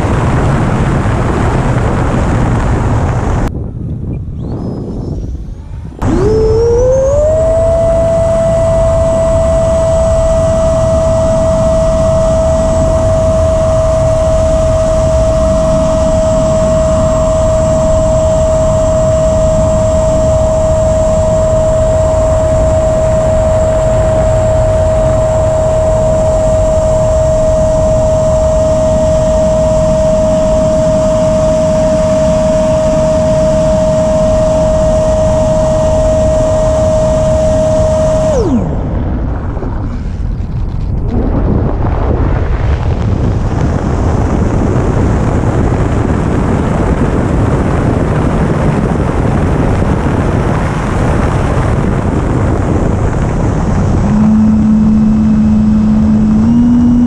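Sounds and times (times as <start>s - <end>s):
electric fan high whine: 0.0s - 57.0s
rushing air noise: 0.0s - 57.0s.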